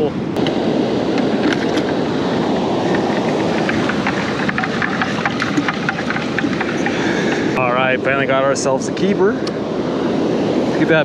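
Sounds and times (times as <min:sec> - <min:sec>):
wind on microphone: 0:00.0 - 0:09.0
ocean surf rushing: 0:00.2 - 0:11.0.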